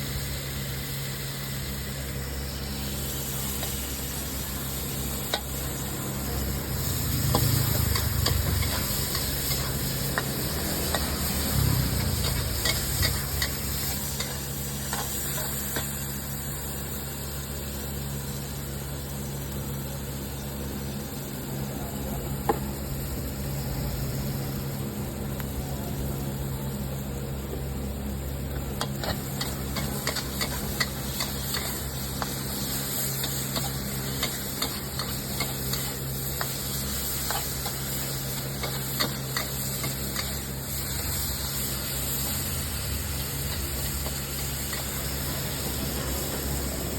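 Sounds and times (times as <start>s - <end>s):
food sizzling in a pan: 0.0s - 46.9s
steady low hum: 0.0s - 46.9s.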